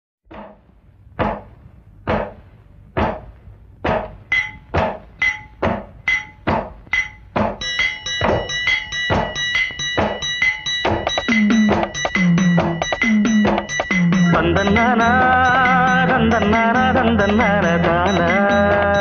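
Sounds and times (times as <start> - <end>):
sharp percussion strikes: 0.3 - 19.0.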